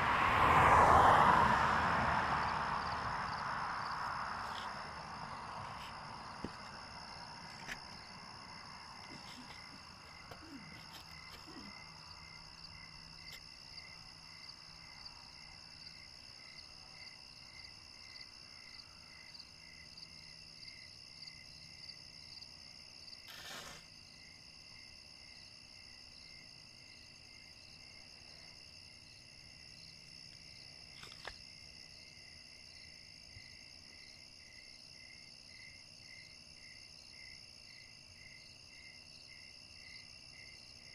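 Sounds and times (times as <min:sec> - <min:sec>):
crickets and insects chirping: 0:00.0 - 0:40.9.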